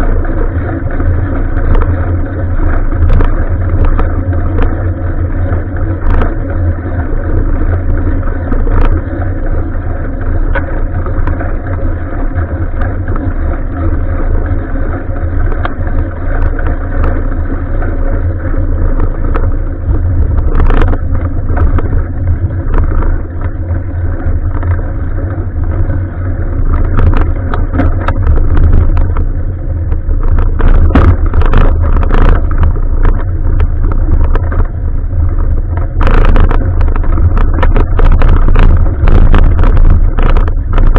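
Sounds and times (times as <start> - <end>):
bicycle knocks and rattles: 0.0 - 40.9
muffled wind and road rumble: 0.0 - 40.9.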